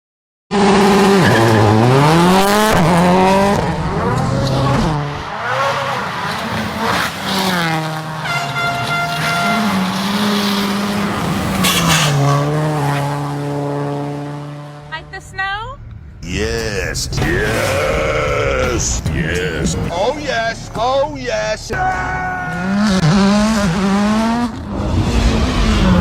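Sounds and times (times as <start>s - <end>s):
rally car engine revving: 0.5s - 26.0s.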